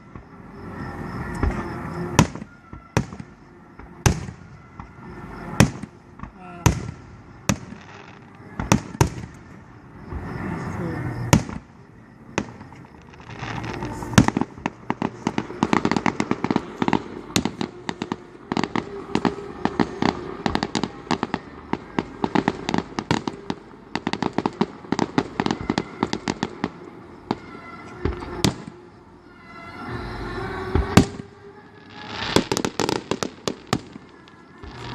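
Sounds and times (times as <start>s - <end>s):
fireworks cracking and banging: 0.0s - 28.9s, 30.6s - 34.9s.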